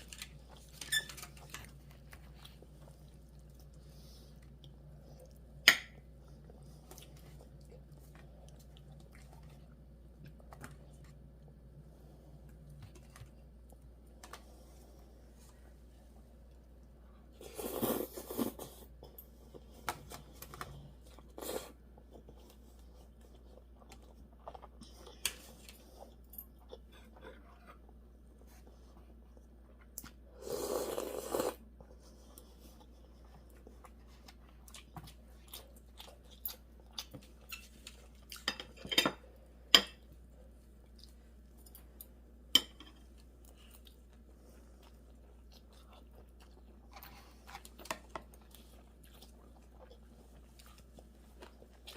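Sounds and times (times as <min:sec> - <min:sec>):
person chewing food: 0:01.4 - 0:51.9.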